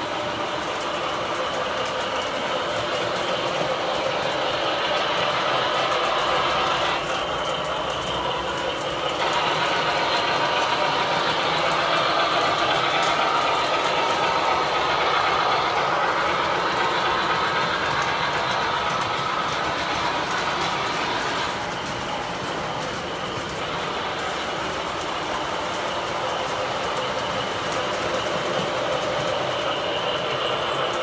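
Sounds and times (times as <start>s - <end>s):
model trains running on track: 0.0s - 31.0s.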